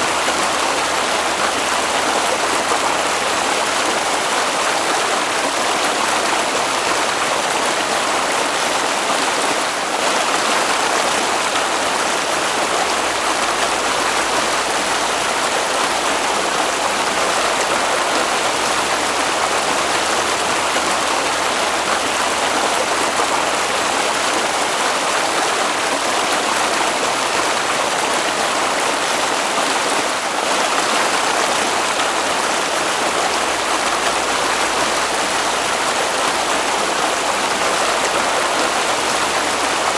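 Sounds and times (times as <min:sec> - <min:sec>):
rush of flowing water: 0:00.0 - 0:39.9.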